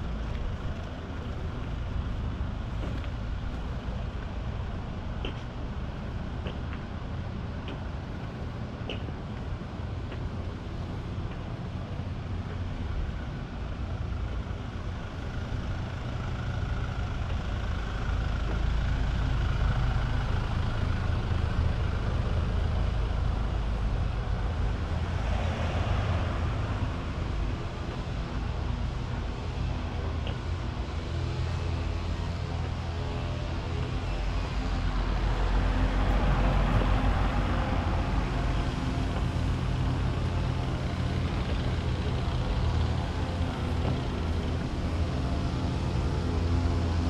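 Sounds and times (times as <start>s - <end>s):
low rumble of passing cars: 0.0s - 47.0s.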